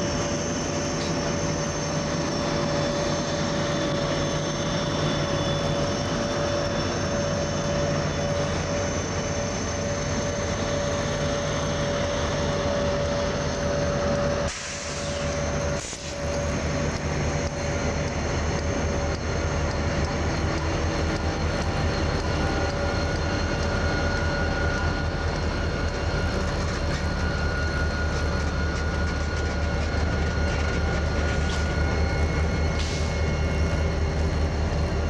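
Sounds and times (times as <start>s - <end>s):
freight train rumbling by: 0.0s - 35.0s.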